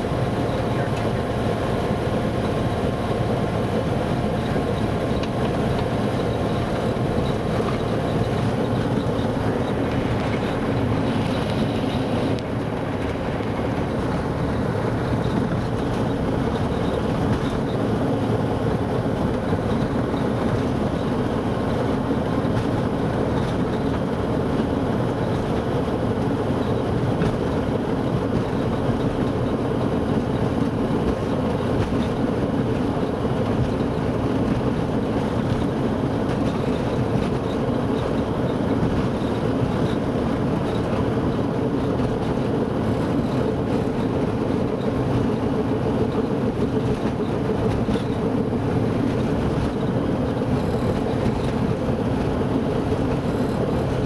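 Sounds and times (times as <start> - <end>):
aircraft propeller engine running: 0.0 - 54.0.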